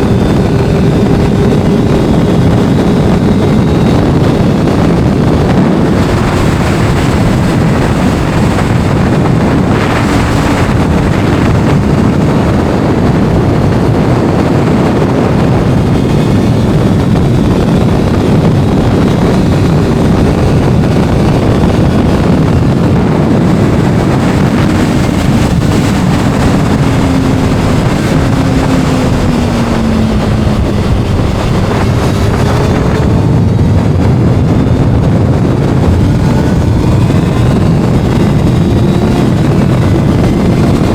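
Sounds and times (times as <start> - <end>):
faint motorcycle engine: 0.0 - 40.9
wind buffeting microphone: 0.0 - 40.9.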